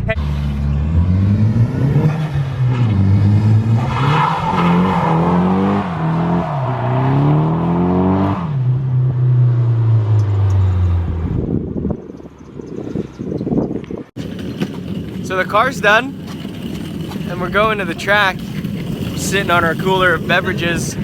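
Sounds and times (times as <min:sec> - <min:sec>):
car engine accelerating: 0:00.0 - 0:13.0, 0:14.2 - 0:21.0.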